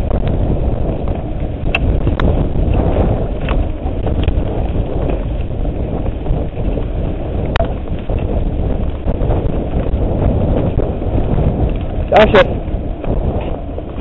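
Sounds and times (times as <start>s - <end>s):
bike tyres rumbling on dirt: 0.0s - 14.0s
wind noise on microphone: 0.0s - 14.0s.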